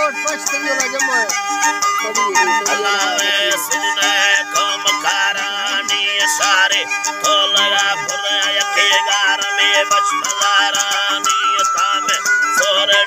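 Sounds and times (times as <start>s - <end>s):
strummed lute: 0.0s - 13.0s
wooden flute melody: 0.0s - 13.0s.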